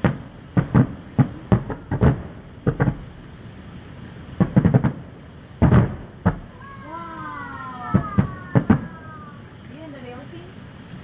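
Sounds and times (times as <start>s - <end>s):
fireworks bursting with sharp bangs: 0.0s - 10.4s.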